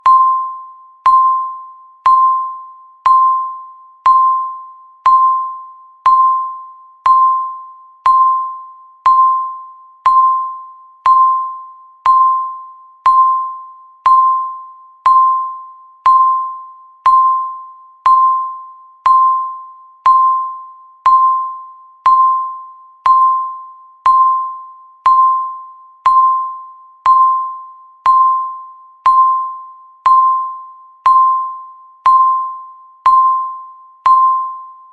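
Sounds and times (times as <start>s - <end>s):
countdown timer beeps: 0.0s - 34.9s.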